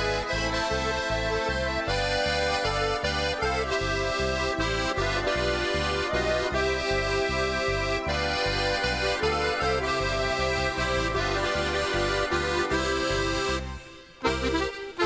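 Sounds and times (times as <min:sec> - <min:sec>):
accordion folk music: 0:00.0 - 0:15.0.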